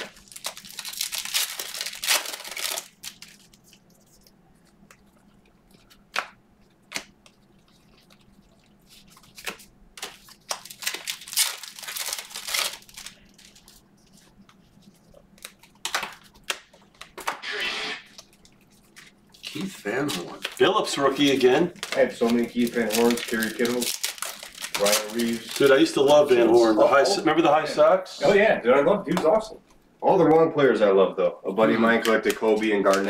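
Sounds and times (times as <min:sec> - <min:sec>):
card pack wrappers crinkling: 0:00.0 - 0:17.4, 0:18.1 - 0:26.6, 0:32.0 - 0:33.0.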